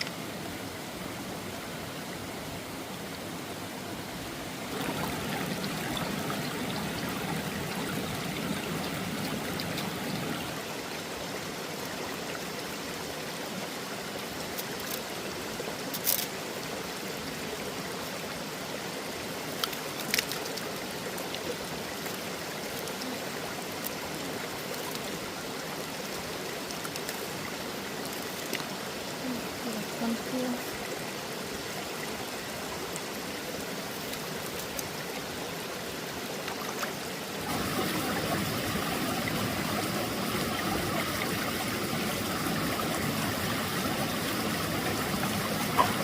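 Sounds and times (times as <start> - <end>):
stream water running: 0.0 - 46.0.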